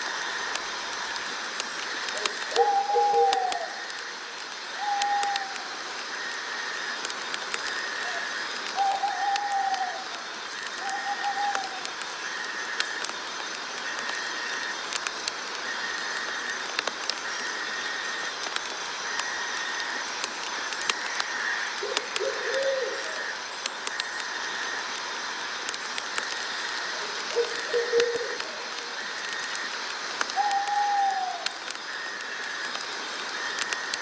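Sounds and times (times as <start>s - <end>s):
chorus of night creatures: 0.0s - 34.0s
scattered clicks: 0.0s - 34.0s.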